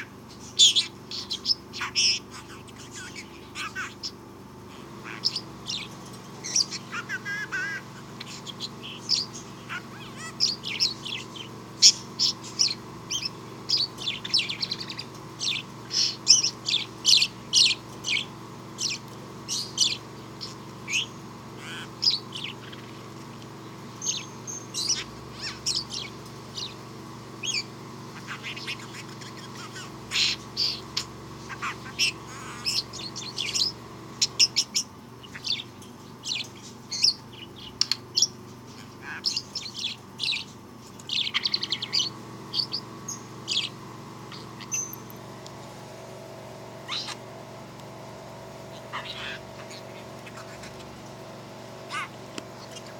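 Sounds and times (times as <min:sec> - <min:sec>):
budgerigar chirping: 0:00.0 - 0:26.8, 0:27.4 - 0:45.1, 0:46.6 - 0:47.4, 0:48.5 - 0:52.9
faint steady hum: 0:00.0 - 0:52.9.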